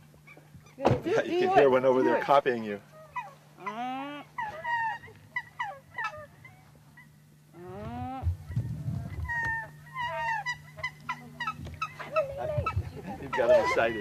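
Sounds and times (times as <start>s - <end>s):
geese honking: 0.3s - 14.0s.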